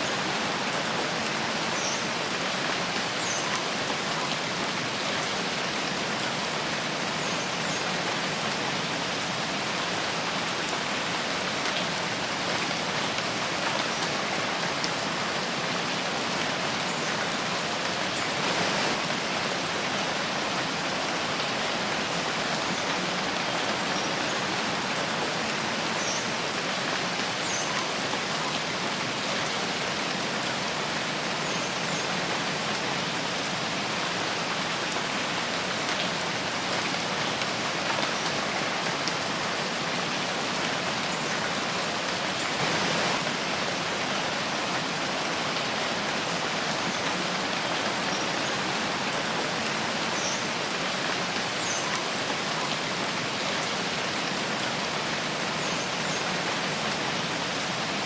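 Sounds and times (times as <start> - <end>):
rain on leaves: 0.0 - 58.0.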